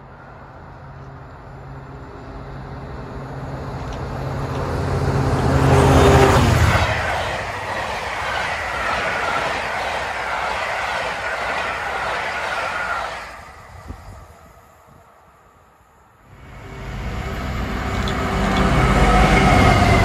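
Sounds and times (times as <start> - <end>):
diesel locomotive passing: 0.0 - 20.0
train coaches rattling on rails: 1.6 - 15.2, 16.5 - 20.0.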